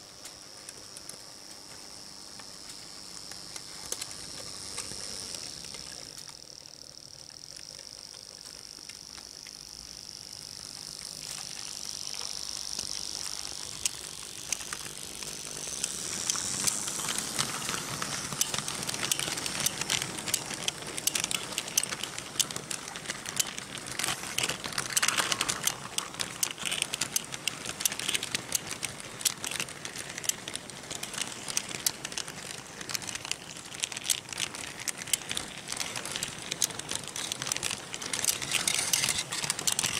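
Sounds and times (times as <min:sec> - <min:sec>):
model locomotive whine: 0:00.0 - 0:39.9
small wheels clicking over rail joints: 0:00.0 - 0:39.9.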